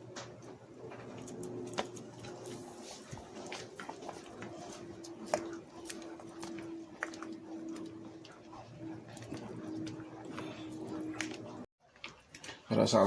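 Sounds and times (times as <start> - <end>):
steady hum: 0.0 - 11.7
gravy simmering with small pops: 0.0 - 12.7.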